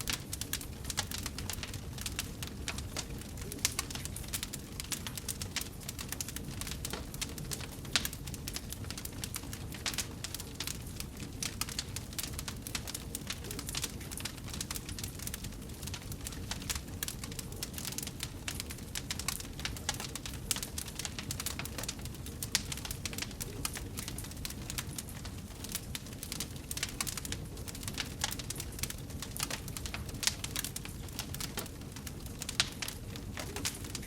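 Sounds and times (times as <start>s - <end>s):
low steady fire rumble: 0.0s - 34.0s
wood fire crackling: 0.0s - 34.0s.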